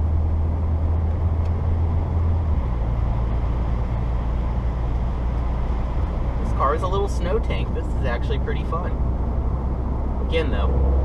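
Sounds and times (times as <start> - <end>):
car engine droning: 0.0 - 11.0
road noise: 0.0 - 11.0.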